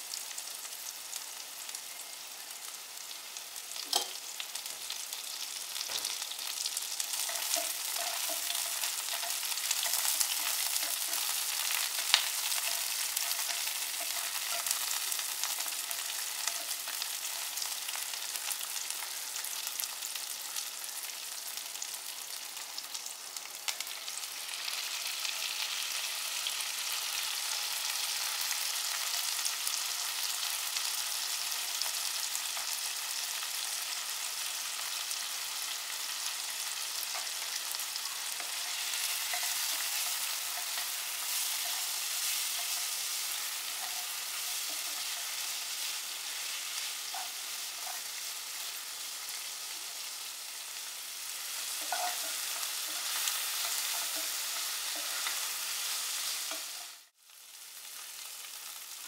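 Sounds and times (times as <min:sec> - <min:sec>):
onions sizzling in hot oil: 0:00.0 - 0:59.0.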